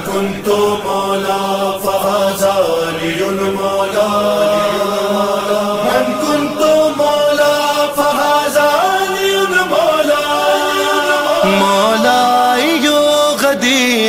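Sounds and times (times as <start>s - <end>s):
voices chanting long notes: 0.0s - 13.6s.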